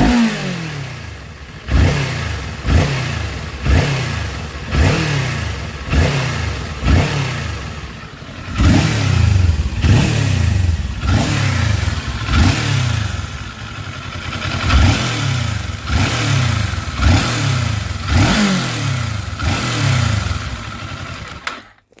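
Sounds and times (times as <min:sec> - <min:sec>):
vehicle engine revving: 0:00.0 - 0:21.6
engine rattling: 0:00.0 - 0:21.8.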